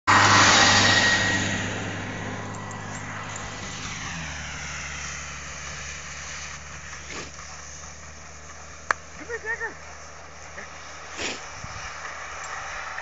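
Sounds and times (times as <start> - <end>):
engine passing by: 0.0 - 13.0.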